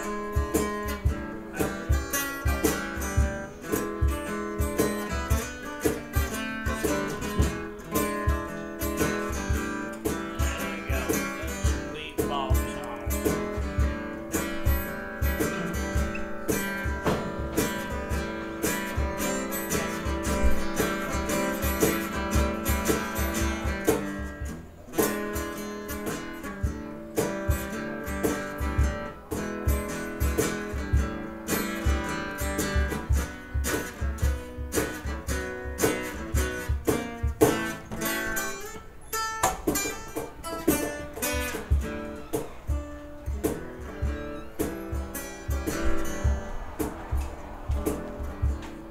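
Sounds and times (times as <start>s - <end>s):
electric guitar: 0.0s - 48.9s
live band playing: 0.0s - 48.9s.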